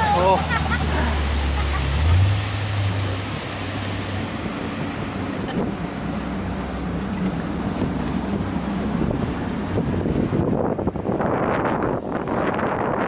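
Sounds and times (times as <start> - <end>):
boat engine droning: 0.0 - 13.0
rushing water: 0.0 - 13.0
wind on microphone: 0.0 - 13.0.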